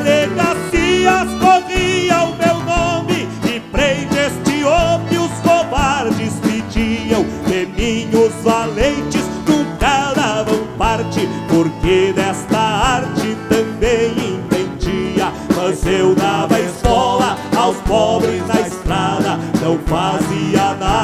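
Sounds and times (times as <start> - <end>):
accordion melody: 0.0 - 21.0
live folk band playing: 0.0 - 21.0.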